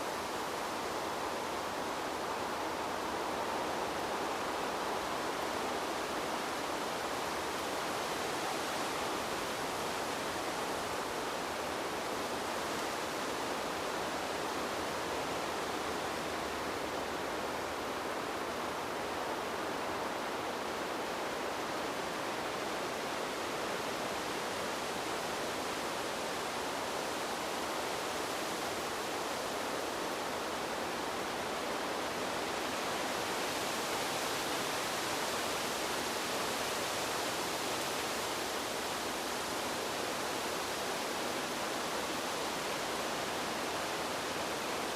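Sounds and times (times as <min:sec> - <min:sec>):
steady wind hiss: 0:00.0 - 0:44.9.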